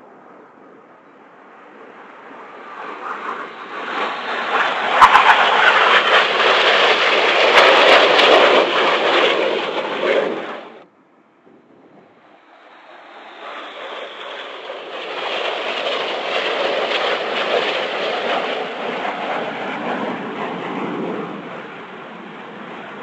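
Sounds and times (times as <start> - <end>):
jet engines flying past: 0.0 - 23.0.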